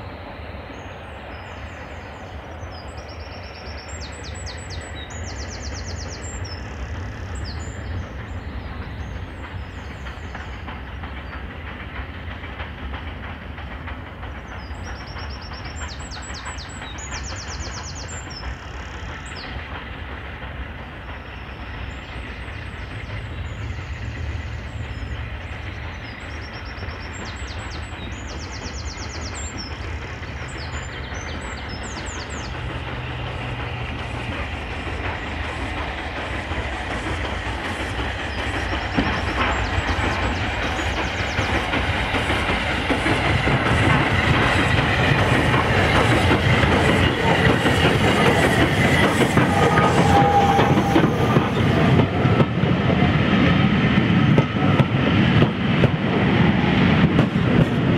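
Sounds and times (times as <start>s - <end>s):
steam locomotive rumbling: 0.0s - 57.9s.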